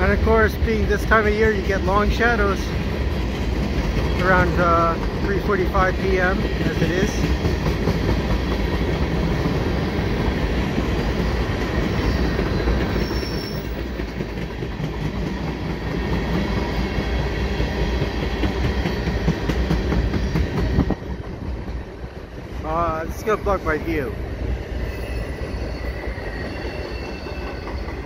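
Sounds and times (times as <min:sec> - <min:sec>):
clickety-clack over rail joints: 0:00.0 - 0:24.1, 0:26.3 - 0:28.0
train wheels rumbling on rails: 0:00.0 - 0:28.0.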